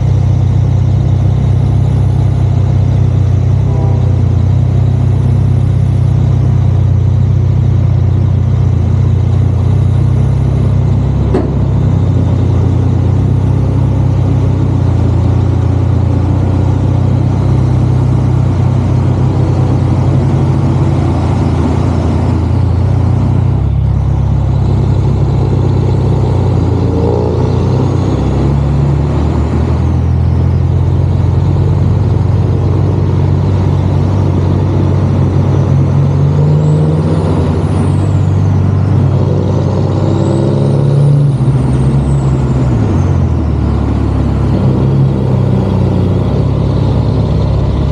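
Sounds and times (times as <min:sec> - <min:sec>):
diesel truck engine drone: 0:00.0 - 0:47.9.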